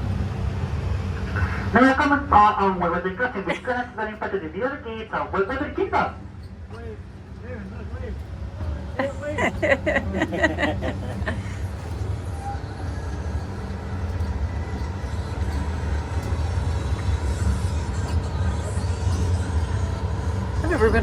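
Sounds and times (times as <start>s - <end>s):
ride train rumbling on track: 0.0s - 21.0s.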